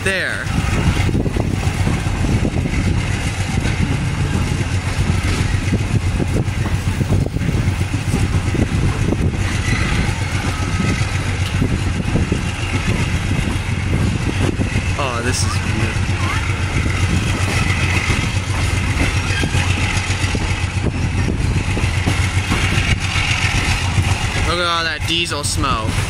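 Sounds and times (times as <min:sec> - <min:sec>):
locomotive engine running: 0:00.0 - 0:26.0
train wheels rumbling on rails: 0:00.0 - 0:26.0
wind noise: 0:00.0 - 0:26.0.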